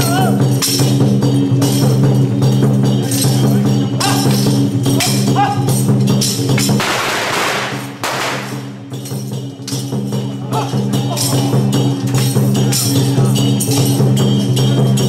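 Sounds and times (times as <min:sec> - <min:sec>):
cymbals clashing: 0:00.0 - 0:15.0.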